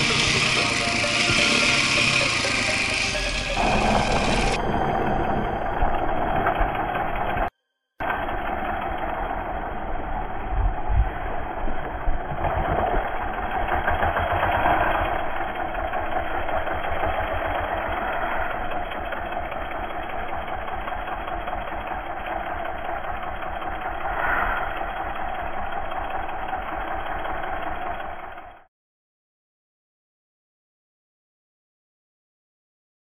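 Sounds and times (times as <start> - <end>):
motorcycle engine revving: 0.0 - 28.6.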